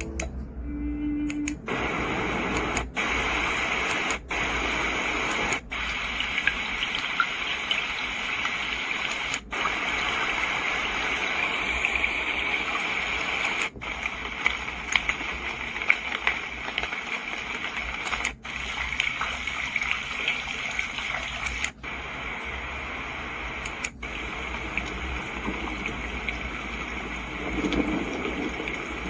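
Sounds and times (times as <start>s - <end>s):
white noise running water: 1.6s - 29.0s.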